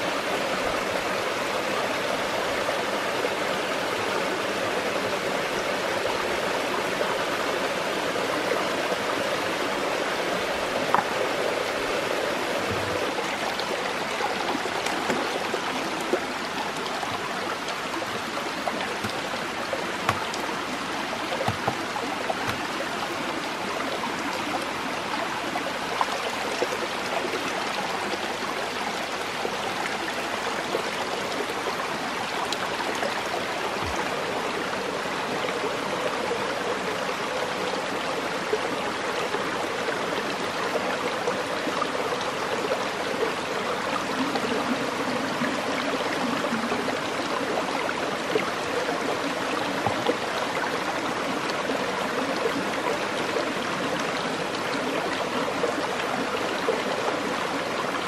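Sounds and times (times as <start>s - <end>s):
stream flowing over stones: 0.0s - 58.0s.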